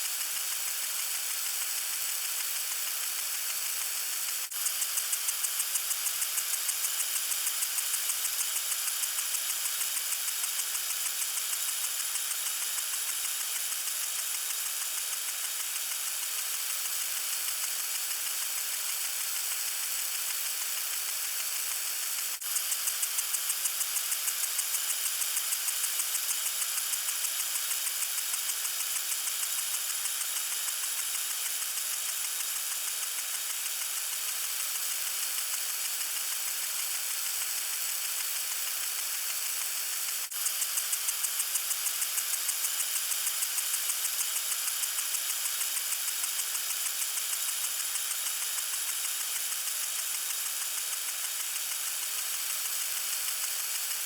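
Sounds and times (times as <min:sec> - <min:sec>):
water sprinkler spraying: 0:00.0 - 0:54.0.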